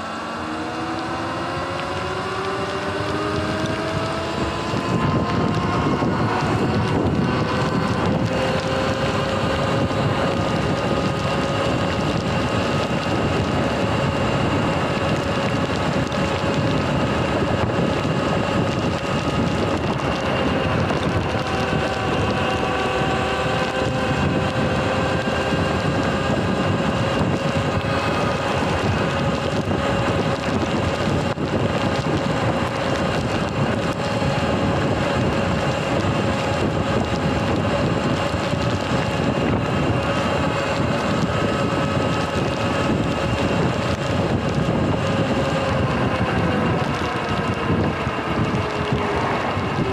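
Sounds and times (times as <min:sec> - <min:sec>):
electric motor whine: 0:00.0 - 0:49.9
wind buffeting microphone: 0:00.0 - 0:49.9.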